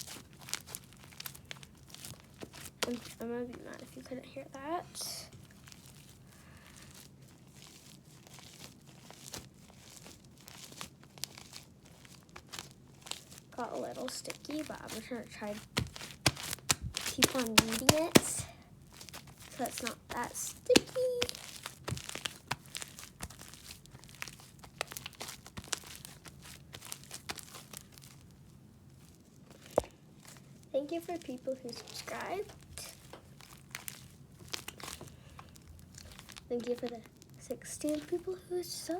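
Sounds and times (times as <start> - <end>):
slime being kneaded by hand: 0.0 - 38.9.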